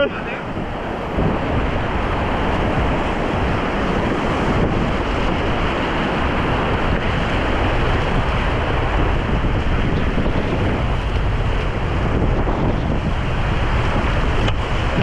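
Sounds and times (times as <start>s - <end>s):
whitewater rapids rushing: 0.0s - 15.0s
wind buffeting microphone: 0.0s - 15.0s.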